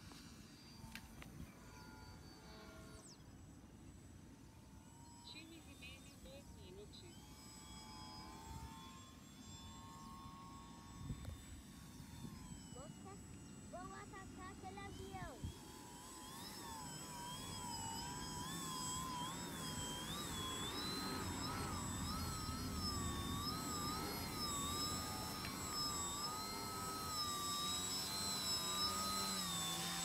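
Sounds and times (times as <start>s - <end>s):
rc plane electric motor whine: 0.0s - 30.0s.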